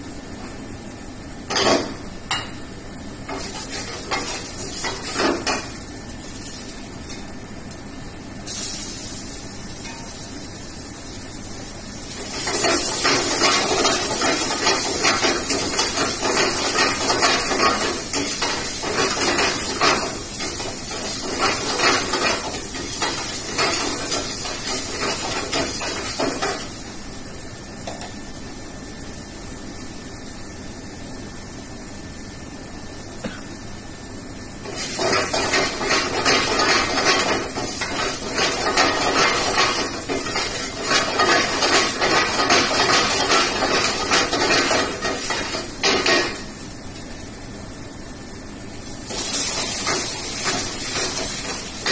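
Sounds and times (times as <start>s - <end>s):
food frying in a pan: 0.0s - 51.9s.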